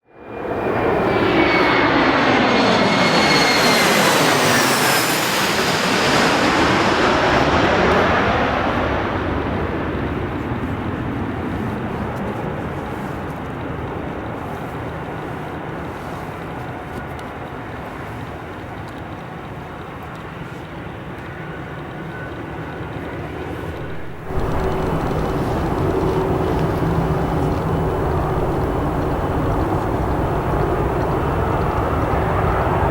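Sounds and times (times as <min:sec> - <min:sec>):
jet aircraft passing: 0:00.1 - 0:32.9.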